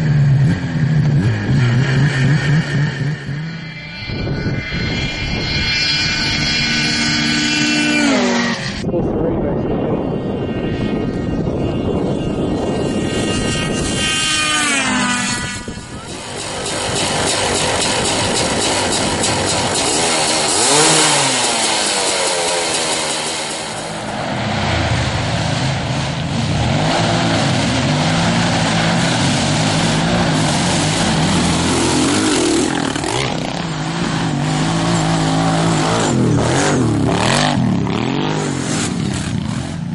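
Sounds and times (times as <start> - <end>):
small off-road engines revving: 0.0 - 8.9, 10.0 - 39.9.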